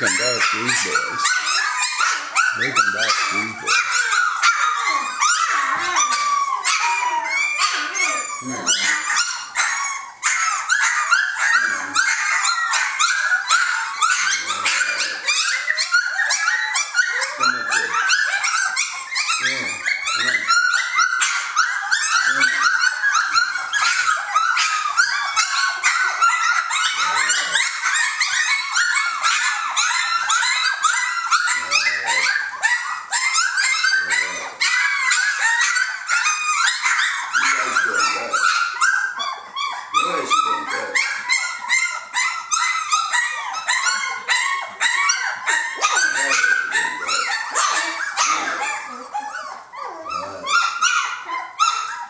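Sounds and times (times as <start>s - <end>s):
puppies whining and squealing: 0.0s - 52.0s.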